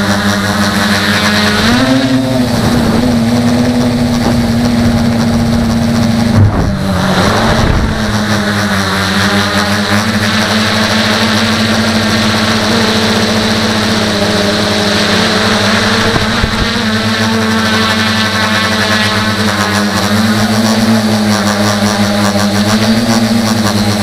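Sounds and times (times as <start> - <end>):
drone motors and propellers buzzing: 0.0 - 24.0.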